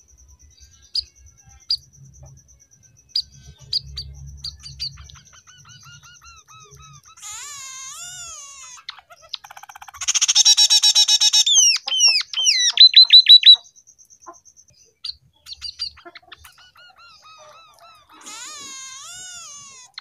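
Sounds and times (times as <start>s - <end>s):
bird singing trills and whistles: 0.1s - 20.0s.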